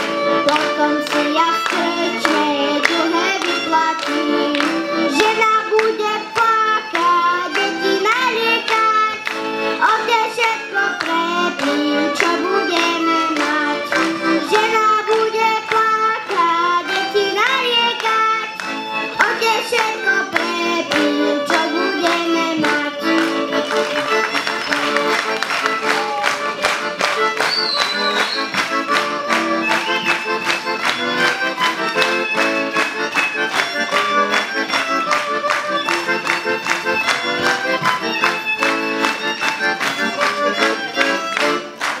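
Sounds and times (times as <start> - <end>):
accordion playing folk song: 0.0 - 42.0
violin playing folk song: 0.0 - 42.0.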